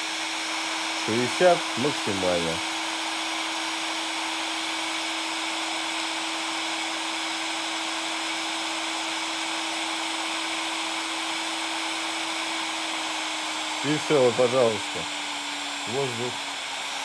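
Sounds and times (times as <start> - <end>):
fan motor hum: 0.0 - 17.0
heat gun air rushing: 0.0 - 17.0.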